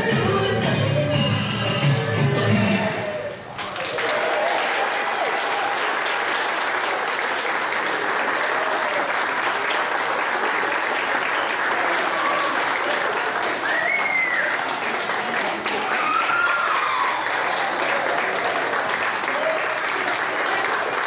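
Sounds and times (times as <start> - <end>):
audience applauding: 3.4 - 21.0.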